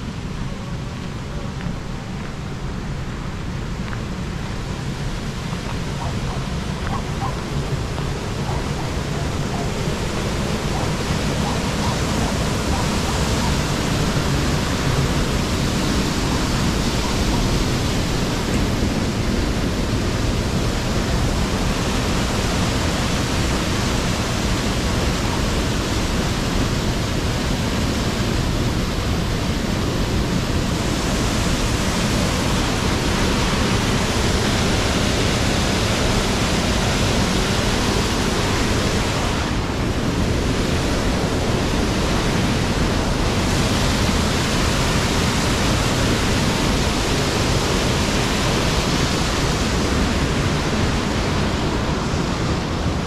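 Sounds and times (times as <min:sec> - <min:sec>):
water rushing through weir: 0:00.0 - 0:53.0.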